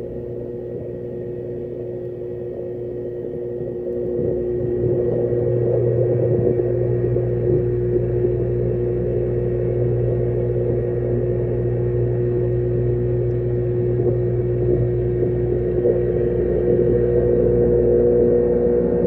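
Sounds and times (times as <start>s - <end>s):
underwater pump hum: 0.0s - 19.0s.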